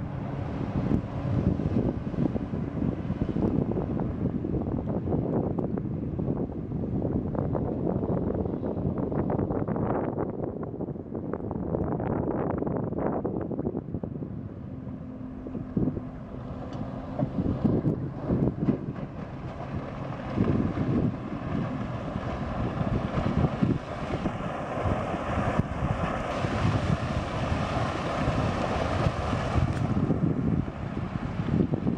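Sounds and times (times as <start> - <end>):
boat engine at speed: 0.0 - 31.9
wind buffeting microphone: 0.0 - 31.9.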